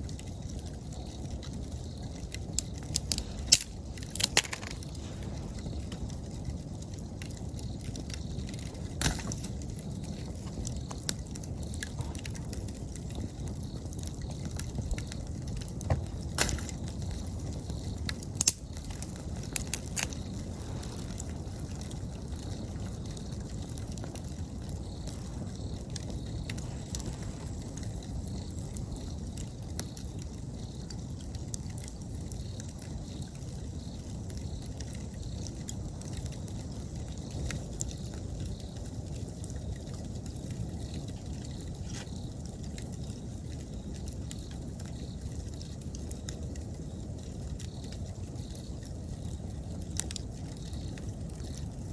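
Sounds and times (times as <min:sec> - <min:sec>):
campfire burning: 0:00.0 - 0:51.9
fire crackles and pops: 0:00.0 - 0:51.9
insects calling: 0:00.0 - 0:51.9.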